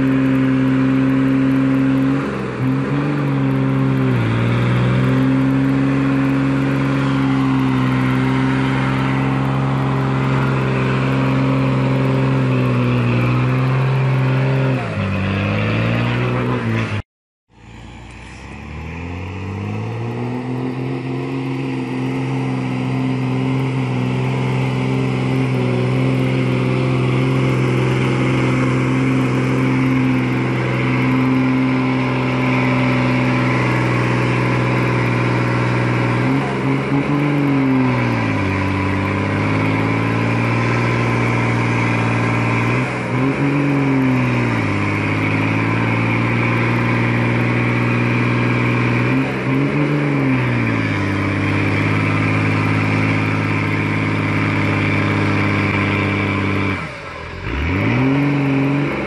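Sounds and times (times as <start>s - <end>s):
diesel truck engine labouring: 0.0s - 59.0s.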